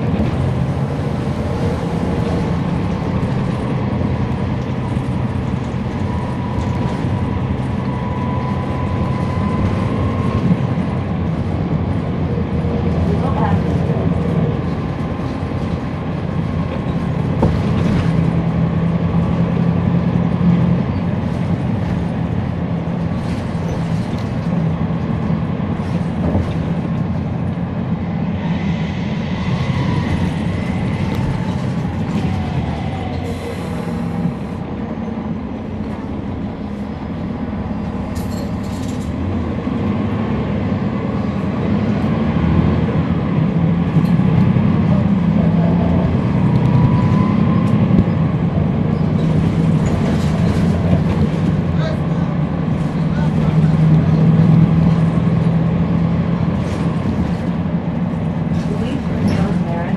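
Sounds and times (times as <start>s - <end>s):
bus diesel engine running: 0.0s - 59.9s
road and body noise: 0.0s - 59.9s.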